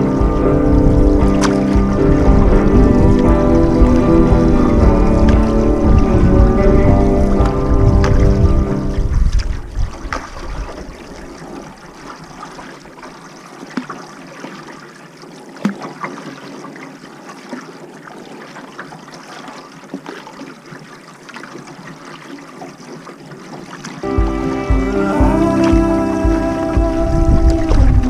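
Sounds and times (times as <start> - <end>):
small drips and splashes: 0.0 - 24.8
water trickling and lapping: 0.0 - 28.0.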